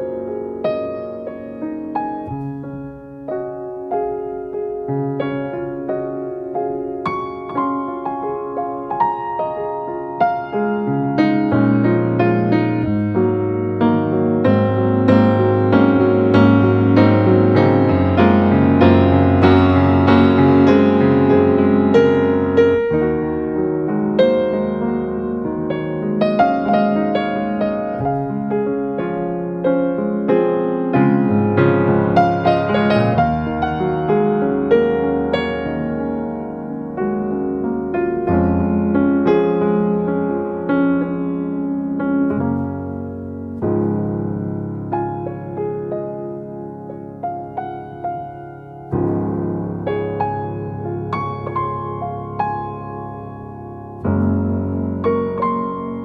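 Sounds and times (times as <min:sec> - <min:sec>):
piano melody over chords: 0:00.0 - 0:56.0.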